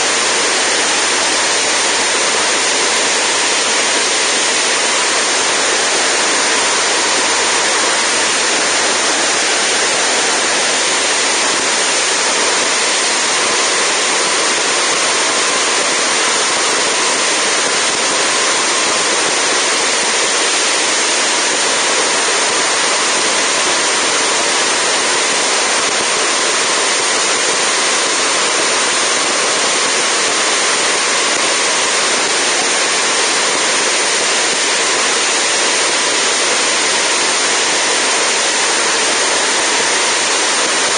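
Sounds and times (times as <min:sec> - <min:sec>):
wind rush: 0:00.0 - 0:33.6
aircraft propeller noise: 0:00.0 - 0:40.9.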